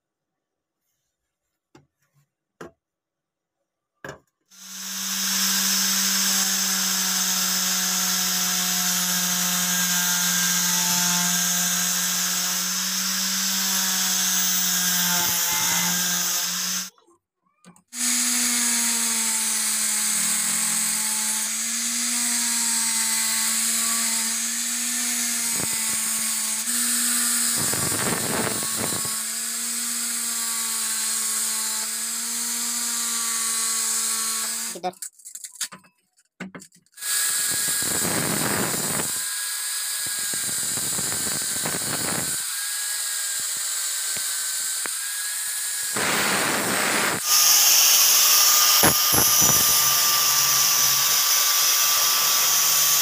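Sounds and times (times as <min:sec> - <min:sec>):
angle grinder sanding wood: 0:04.6 - 0:16.9, 0:18.0 - 0:34.9, 0:37.0 - 0:53.0.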